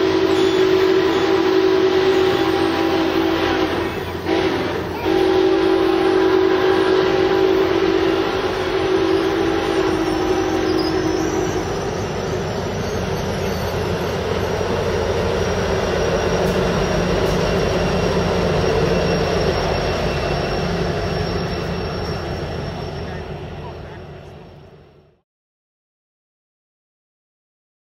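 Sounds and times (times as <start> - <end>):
high wheel squeal: 0.0 - 6.1, 6.7 - 24.8
diesel locomotive passing: 0.0 - 25.2
train cars rolling on rails: 0.0 - 25.2.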